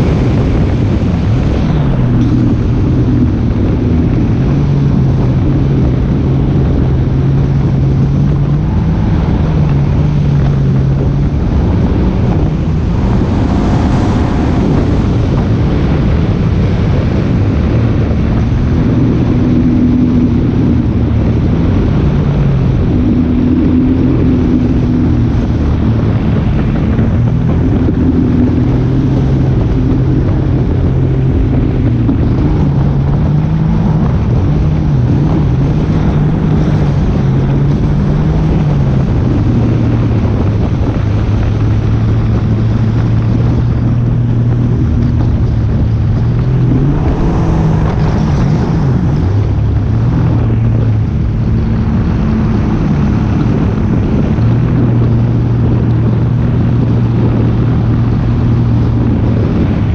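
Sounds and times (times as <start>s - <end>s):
engine running: 0.0s - 59.9s
wind on microphone: 0.0s - 59.9s.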